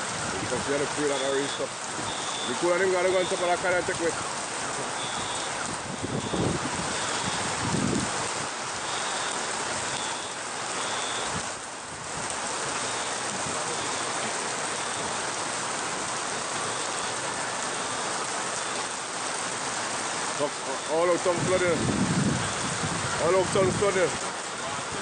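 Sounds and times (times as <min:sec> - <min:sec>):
heavy rain: 0:00.0 - 0:25.0
running floodwater: 0:00.0 - 0:25.0.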